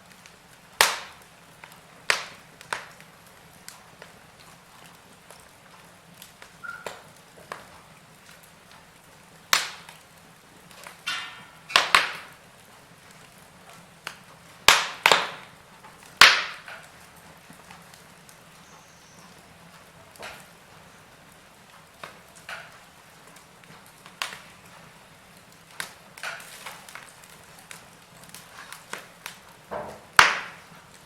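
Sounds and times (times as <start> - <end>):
faint steady hiss: 0.0 - 31.0
wood fire crackling and popping: 0.0 - 31.0.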